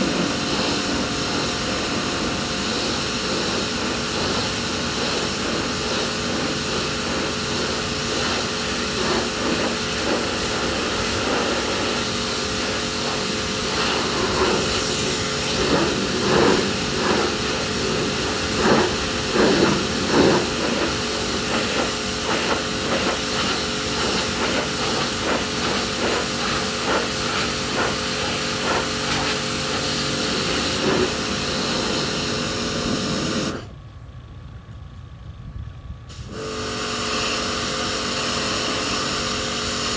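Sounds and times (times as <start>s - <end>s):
water jet spraying: 0.0s - 33.6s
pressure washer motor humming: 0.0s - 33.7s, 36.1s - 39.9s.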